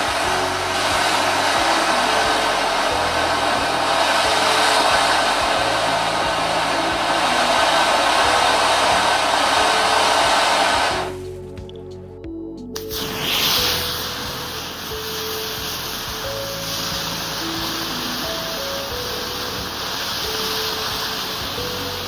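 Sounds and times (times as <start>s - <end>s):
firework fountain hissing: 0.0s - 11.2s, 12.8s - 22.0s.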